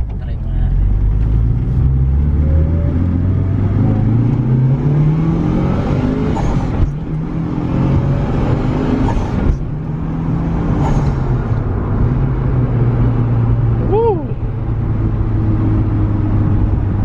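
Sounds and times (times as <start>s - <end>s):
car engine accelerating hard: 0.2s - 17.0s.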